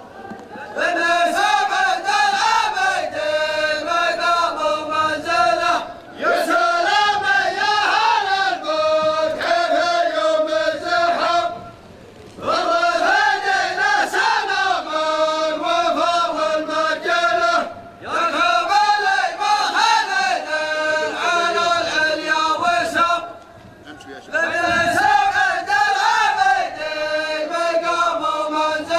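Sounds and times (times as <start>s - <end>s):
men chanting in unison: 0.0s - 11.8s, 12.4s - 23.4s, 24.2s - 28.9s.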